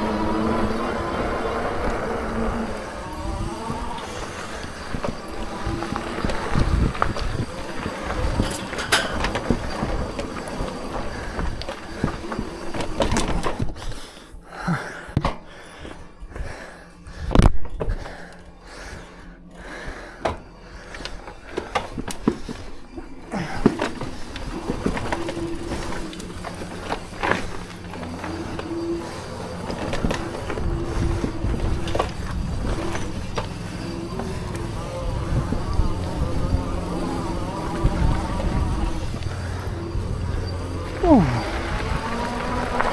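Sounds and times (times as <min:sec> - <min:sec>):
bike knocks and rattles: 0:00.0 - 0:14.0, 0:20.2 - 0:42.9
bike tyres rolling on rough ground: 0:00.0 - 0:42.9
steady low hum: 0:00.0 - 0:42.9.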